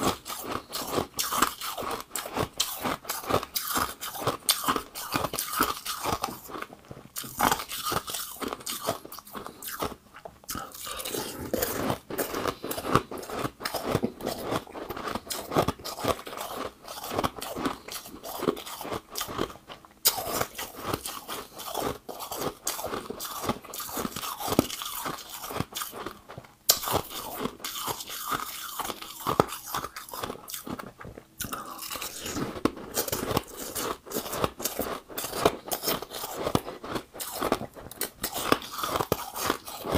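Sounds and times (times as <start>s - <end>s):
chewing and crunching ice: 0.0s - 39.9s.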